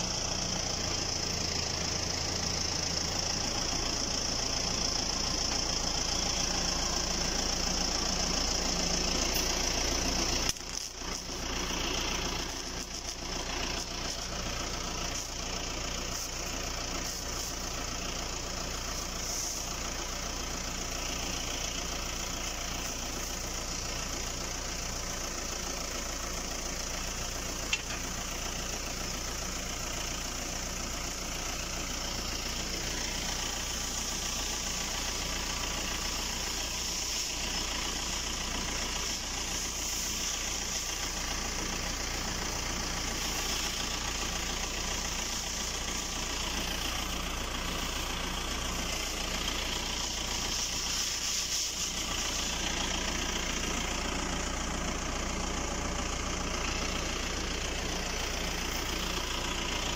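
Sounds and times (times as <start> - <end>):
steady hiss: 0.0 - 59.9
tractor engine idling: 0.0 - 59.9.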